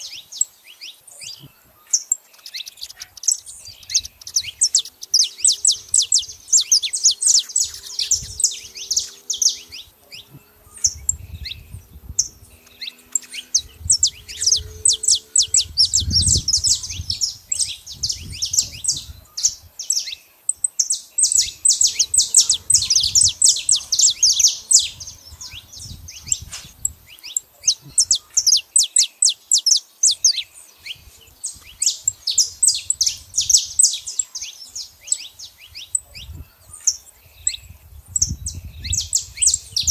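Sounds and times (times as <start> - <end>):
finch chirping: 0.0 - 39.9.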